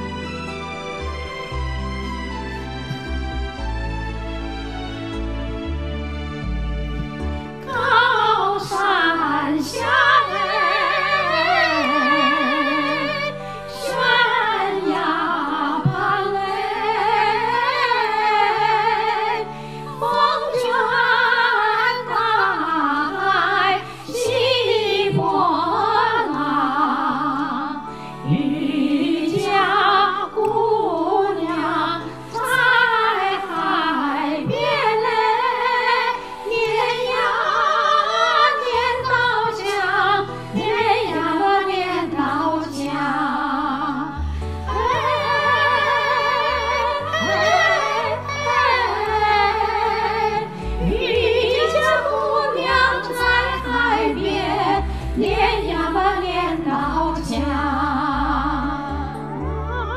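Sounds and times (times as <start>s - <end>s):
women singing operatic duet: 7.6s - 59.9s.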